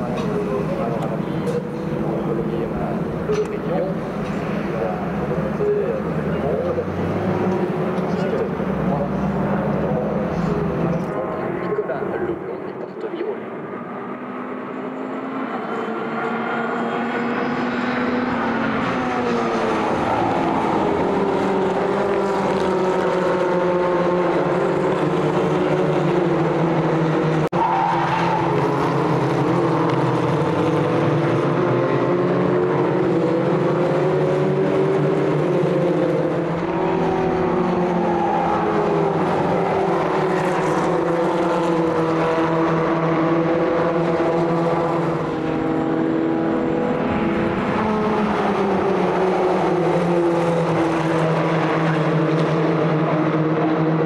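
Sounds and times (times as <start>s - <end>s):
race car engines running hard: 0.0s - 54.0s.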